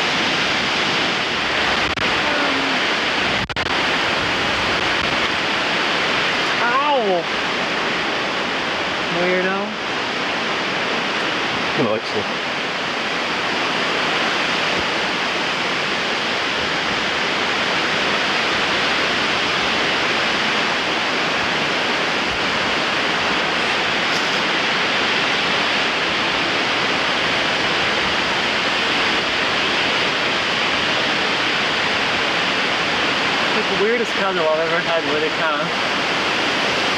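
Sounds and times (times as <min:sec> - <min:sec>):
strong wind through woods: 0:00.0 - 0:36.9.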